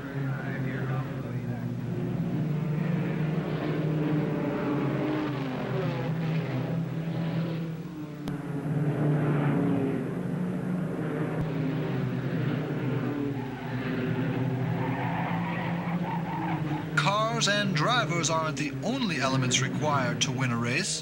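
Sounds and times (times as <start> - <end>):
racing car engines roaring past: 0.0 - 21.0.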